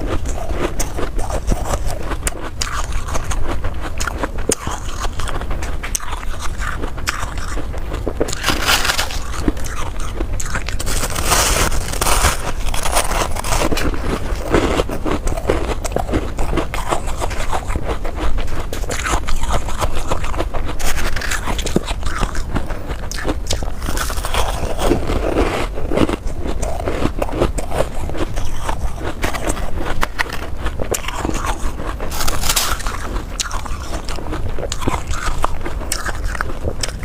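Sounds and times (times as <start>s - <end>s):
ice being chewed: 0.0s - 37.0s.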